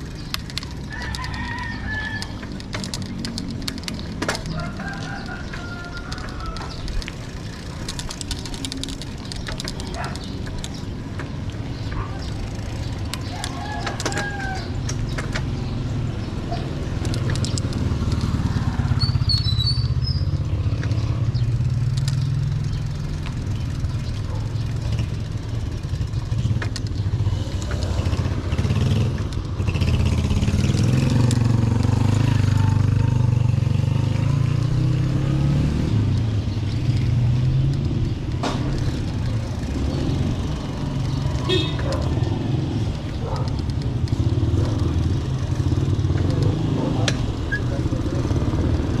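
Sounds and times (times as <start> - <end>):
sharp clicks: 0.0 - 32.4, 36.0 - 49.0
motorcycle engine rumbling: 0.0 - 49.0.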